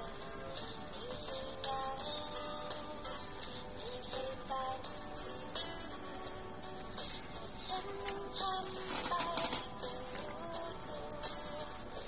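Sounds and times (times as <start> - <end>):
pop song from small speaker: 0.0 - 12.0.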